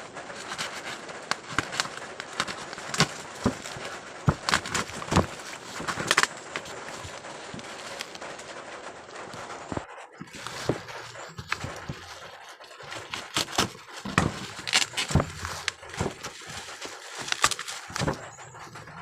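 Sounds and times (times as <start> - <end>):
packaging crinkling and snapping: 0.0 - 19.0.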